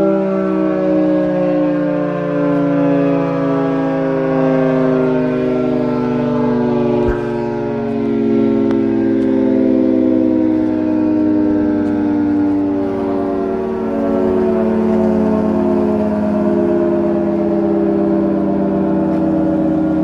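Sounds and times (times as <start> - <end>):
two-tone warning siren: 0.0 - 20.0.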